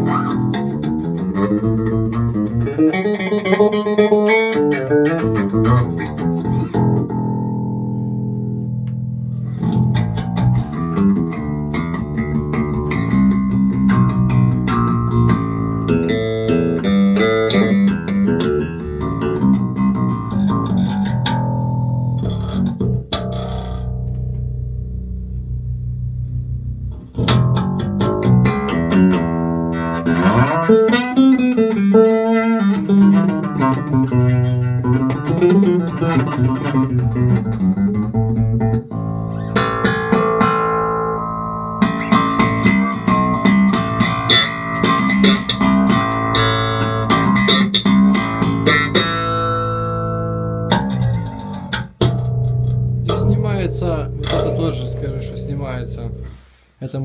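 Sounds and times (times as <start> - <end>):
electric bass guitar playing: 0.0 - 57.0.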